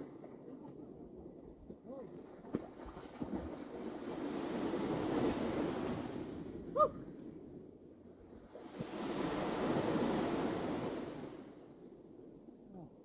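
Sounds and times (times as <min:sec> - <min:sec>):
small waves washing onto beach: 0:00.0 - 0:11.9.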